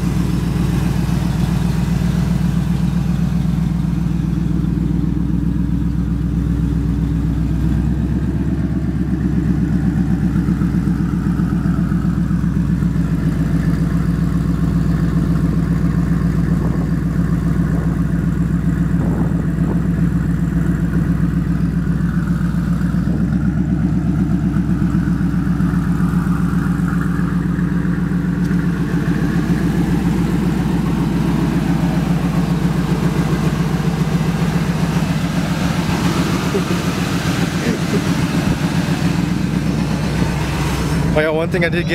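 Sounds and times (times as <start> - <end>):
pickup truck engine idling: 0.0 - 41.9.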